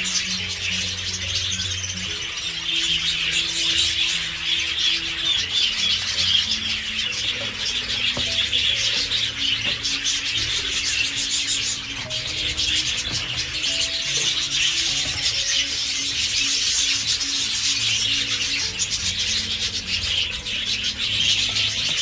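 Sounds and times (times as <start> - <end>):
soft slow background music: 0.0 - 22.0.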